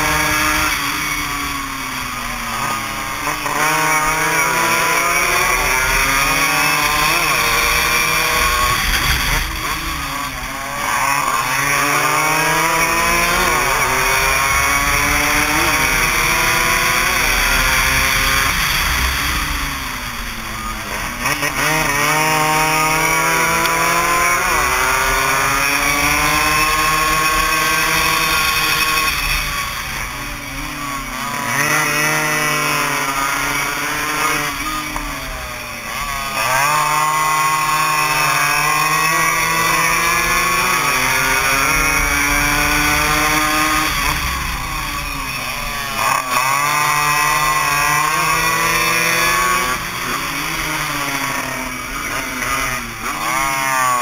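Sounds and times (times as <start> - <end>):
two-stroke motorcycle engines revving: 0.0 - 54.0.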